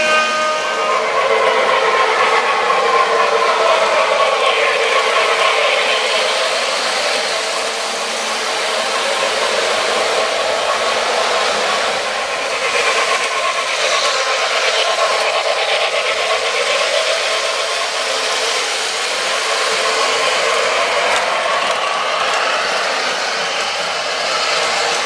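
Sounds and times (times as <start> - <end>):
model trains running on rails: 0.0 - 25.0.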